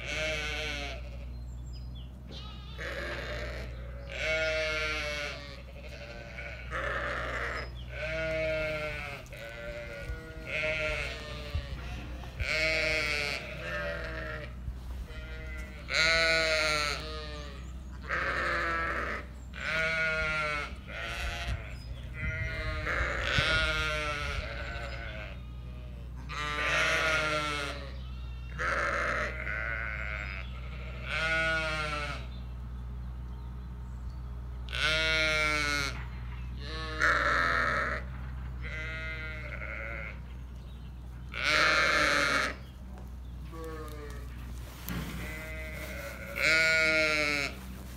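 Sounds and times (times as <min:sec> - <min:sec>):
sheep bleating: 0:00.0 - 0:01.4, 0:02.3 - 0:32.3, 0:34.7 - 0:40.4, 0:41.2 - 0:42.7, 0:43.4 - 0:47.9.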